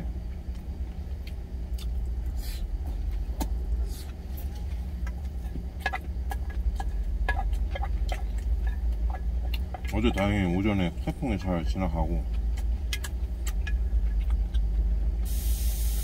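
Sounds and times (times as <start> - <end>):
truck engine idling: 0.0 - 16.0
chewing: 0.3 - 15.4.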